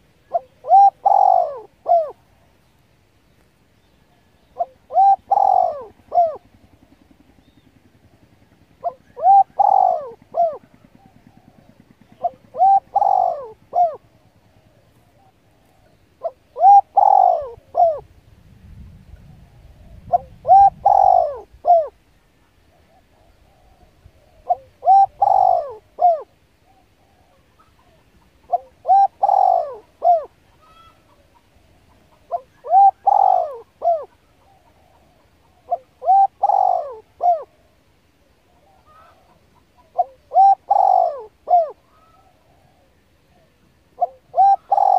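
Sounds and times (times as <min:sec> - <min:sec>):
dove cooing: 0:00.0 - 0:02.7, 0:03.9 - 0:18.3, 0:19.1 - 0:44.9.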